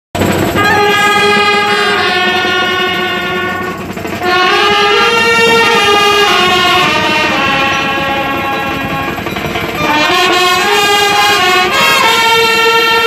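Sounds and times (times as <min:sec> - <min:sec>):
brass band trumpets playing: 0:00.2 - 0:13.0.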